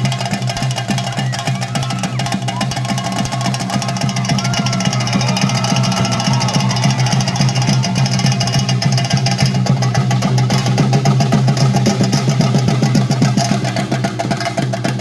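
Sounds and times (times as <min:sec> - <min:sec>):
drum ensemble playing fast rhythm: 0:00.0 - 0:15.0.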